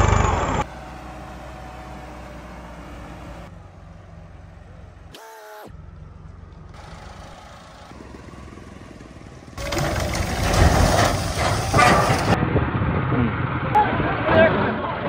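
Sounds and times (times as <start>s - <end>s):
tractor engine running: 0.0s - 12.8s.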